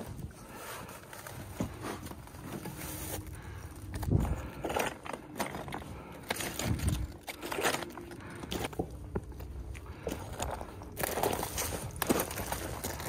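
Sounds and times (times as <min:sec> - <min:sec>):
boots crunching on scree: 0:01.4 - 0:13.0.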